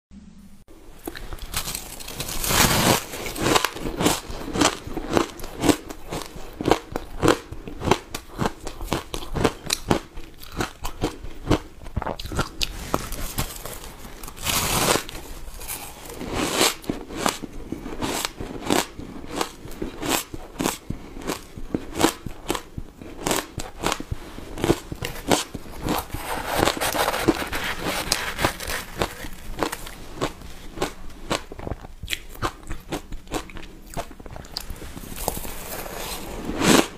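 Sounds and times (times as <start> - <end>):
chewing crunchy ice: 1.1 - 36.9.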